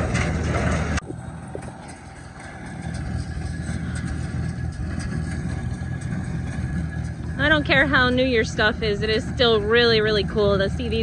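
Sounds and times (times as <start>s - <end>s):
tractor engine running under load: 0.0s - 11.0s.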